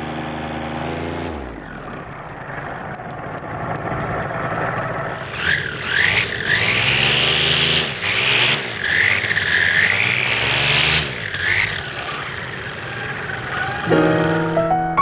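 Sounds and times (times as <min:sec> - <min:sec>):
paramotor engine revving: 0:00.0 - 0:03.7, 0:04.6 - 0:14.6.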